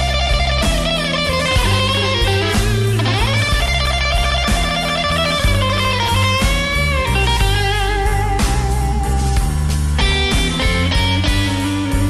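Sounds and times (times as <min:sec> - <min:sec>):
band playing low notes: 0:00.0 - 0:12.0
lead electric guitar: 0:00.0 - 0:12.0.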